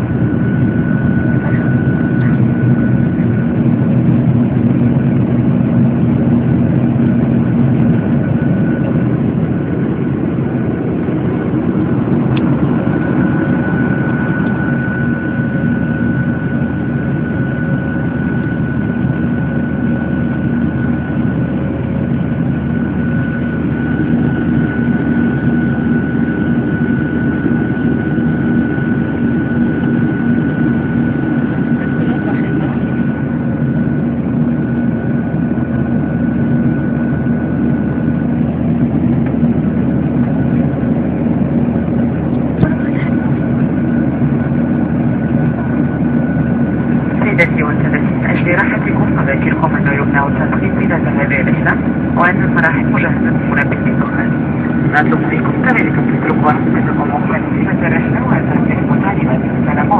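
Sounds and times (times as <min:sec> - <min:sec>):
jet engines roaring in cabin: 0:00.0 - 0:59.9.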